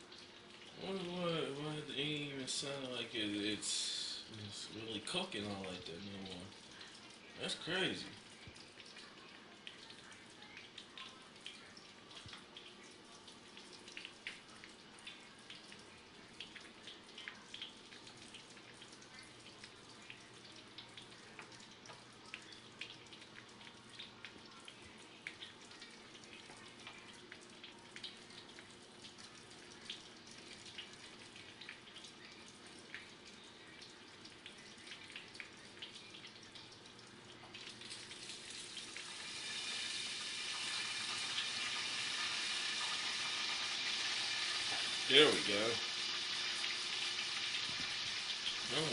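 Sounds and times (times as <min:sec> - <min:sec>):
chicken frying in oil: 0:00.0 - 0:48.9.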